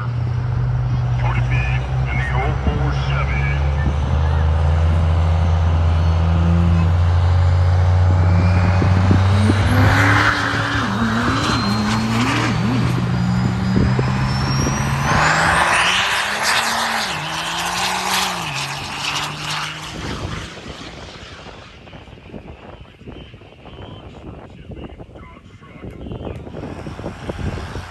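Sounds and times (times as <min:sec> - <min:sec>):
truck engine accelerating: 0:00.0 - 0:22.4, 0:26.2 - 0:27.9.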